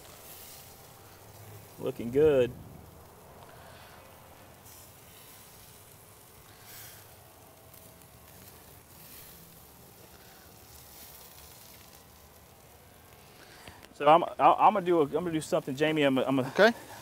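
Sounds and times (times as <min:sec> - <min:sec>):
steaks sizzling on a grill: 0:00.0 - 0:17.0.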